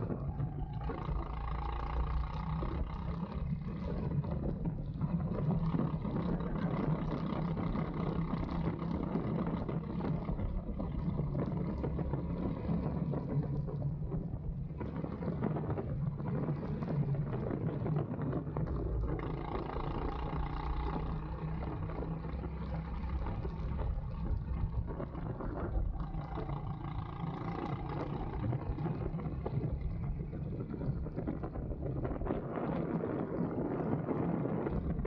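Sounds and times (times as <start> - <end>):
go-kart engine running: 0.0 - 35.0
wind buffeting microphone: 0.0 - 35.0.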